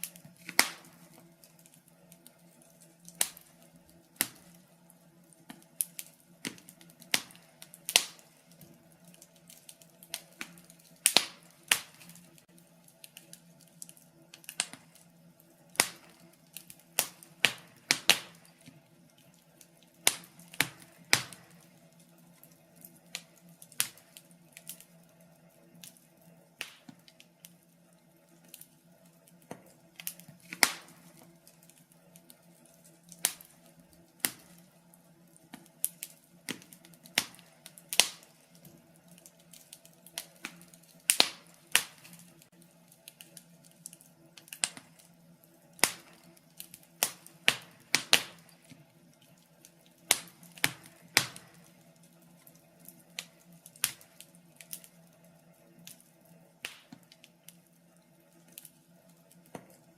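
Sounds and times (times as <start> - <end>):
faint steady hum: 0.0 - 59.9
logs crackling in fireplace: 0.0 - 59.9.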